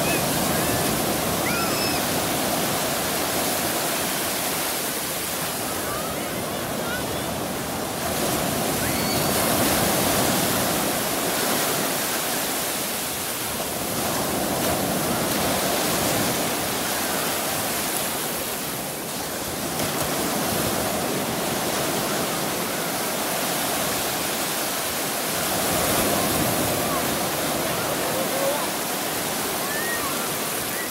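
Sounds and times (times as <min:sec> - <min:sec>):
small waves breaking: 0:00.0 - 0:30.9.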